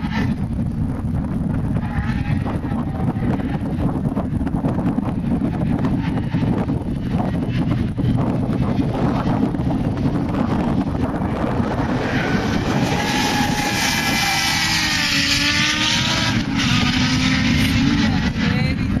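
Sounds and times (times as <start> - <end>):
buggy engine revving: 0.0 - 19.0
wind buffeting microphone: 0.0 - 19.0.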